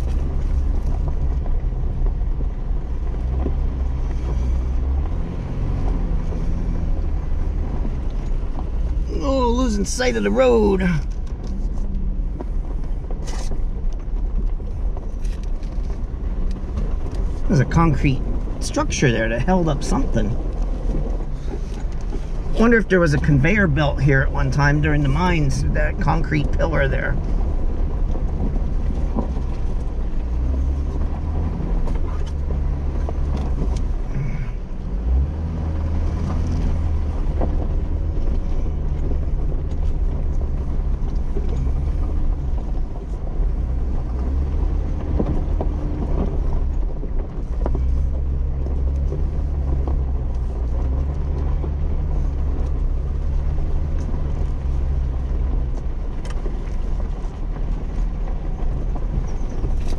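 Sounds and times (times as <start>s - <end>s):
vehicle engine low rumble: 0.0s - 59.9s.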